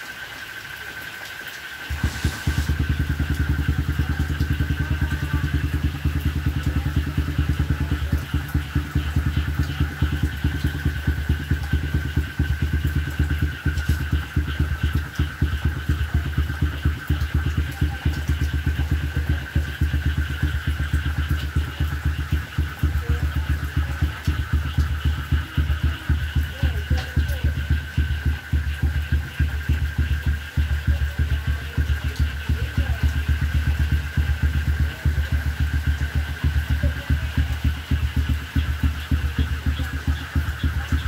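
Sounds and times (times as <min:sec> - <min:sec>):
small engine idling: 0:00.0 - 0:41.0.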